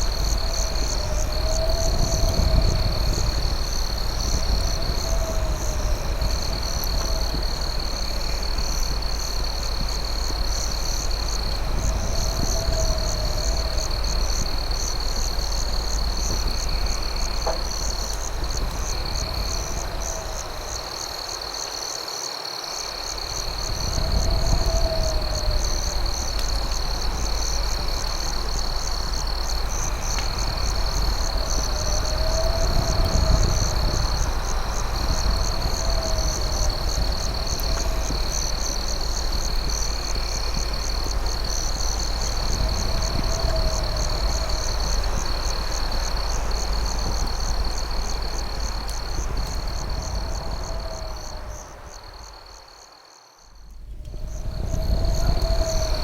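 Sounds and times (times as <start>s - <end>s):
steady low rumble: 0.0s - 21.3s, 23.2s - 52.4s
crickets trilling: 0.0s - 56.0s.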